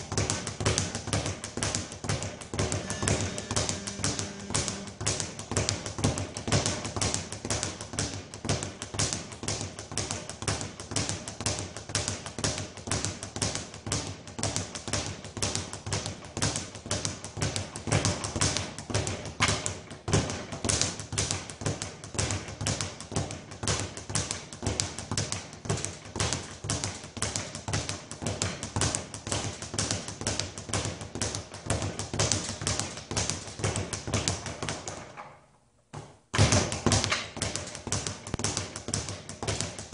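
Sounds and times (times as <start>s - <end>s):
speed bag being punched: 0.0s - 35.2s, 36.3s - 39.9s.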